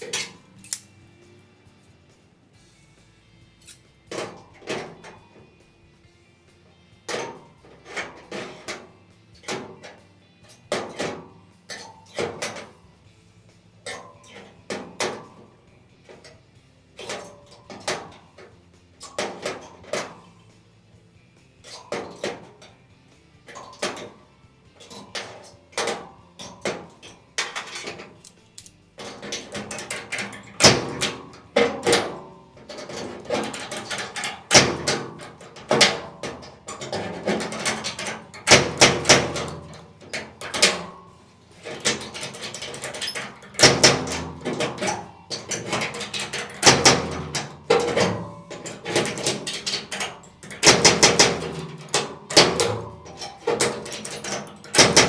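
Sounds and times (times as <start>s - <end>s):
metallic knocks and clanks: 0.0s - 2.8s, 3.5s - 55.0s.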